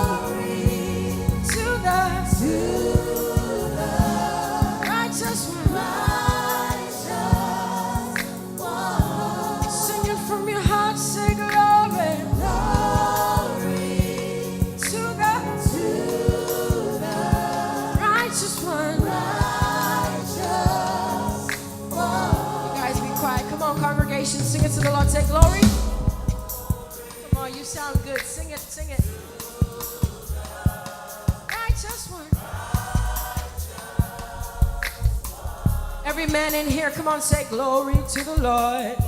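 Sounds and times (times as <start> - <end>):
choir singing over live band: 0.0 - 39.0
steady drum beat: 0.0 - 39.0.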